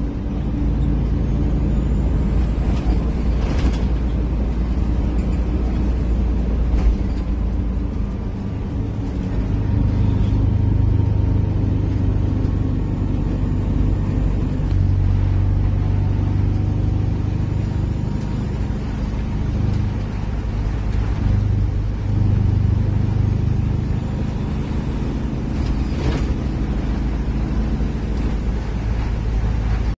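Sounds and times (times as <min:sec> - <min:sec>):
bus diesel engine rumbling: 0:00.0 - 0:29.9.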